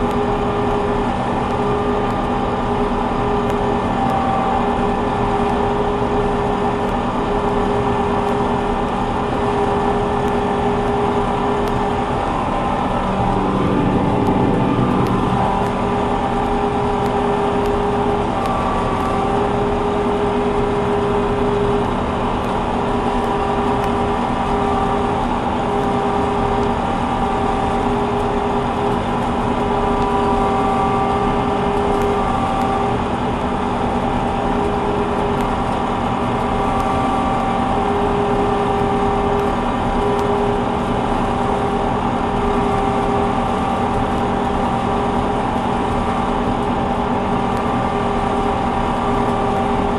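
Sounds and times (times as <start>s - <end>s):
combine harvester droning: 0.0s - 49.9s
machinery whine: 0.0s - 49.9s.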